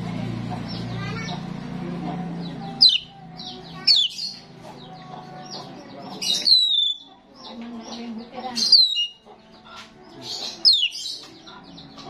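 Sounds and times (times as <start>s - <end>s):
starling soft chattering: 0.2s - 12.0s.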